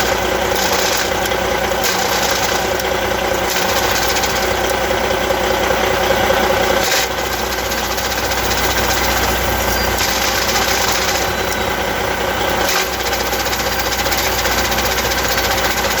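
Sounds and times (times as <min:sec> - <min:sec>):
truck diesel engine idling: 0:00.0 - 0:16.0.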